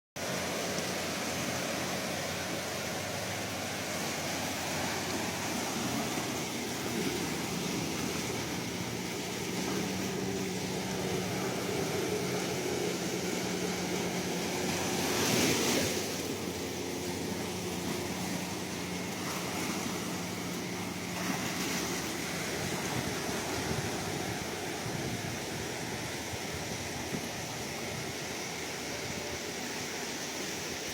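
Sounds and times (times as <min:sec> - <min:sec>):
sea waves washing in: 0:00.2 - 0:30.9.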